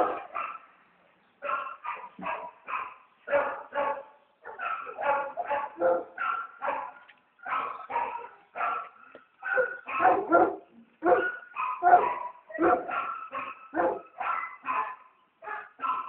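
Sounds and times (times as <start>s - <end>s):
dogs barking: 0.0s - 0.8s, 1.4s - 16.0s.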